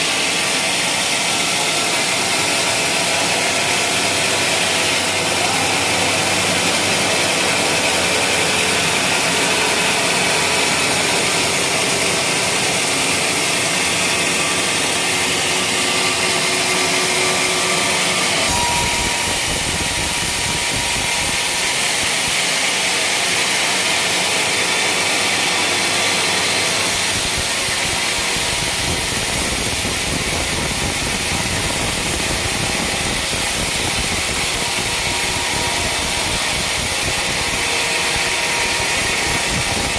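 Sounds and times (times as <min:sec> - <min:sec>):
sawmill sawing wood: 0:00.0 - 0:39.9.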